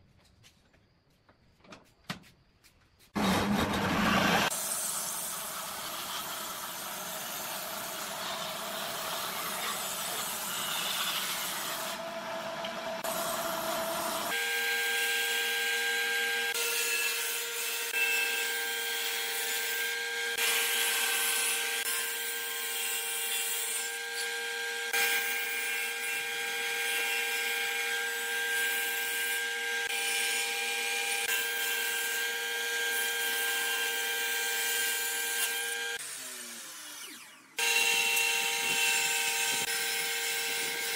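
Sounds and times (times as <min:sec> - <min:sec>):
saw blade whine: 0:03.2 - 0:40.9
table saw cutting wood: 0:03.2 - 0:40.9.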